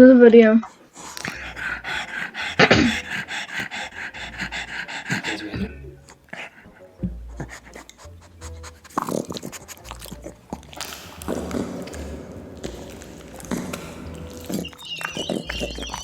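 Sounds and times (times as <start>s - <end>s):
mouth clicks: 0.0s - 16.0s
throaty sounds: 0.0s - 16.0s
chewing and biting noises: 0.6s - 16.0s.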